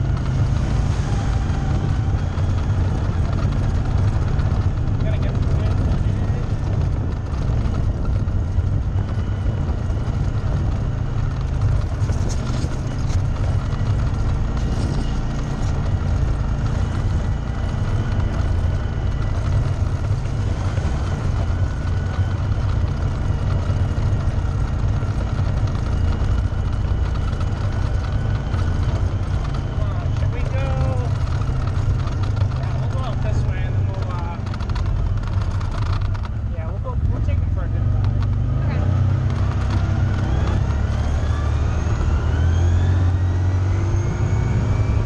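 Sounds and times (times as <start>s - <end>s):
all-terrain vehicle engine rumbling: 0.0s - 45.0s.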